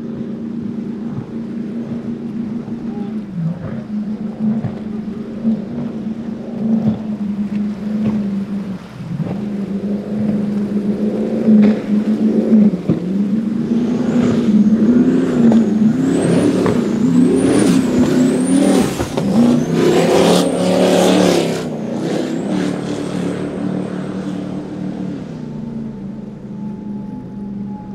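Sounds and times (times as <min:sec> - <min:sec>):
speedboat engines: 0:00.0 - 0:27.9.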